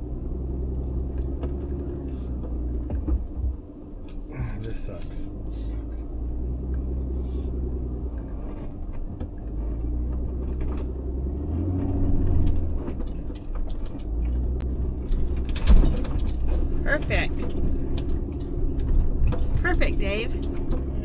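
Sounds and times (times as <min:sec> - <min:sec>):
van engine and road rumble: 0:00.0 - 0:21.0.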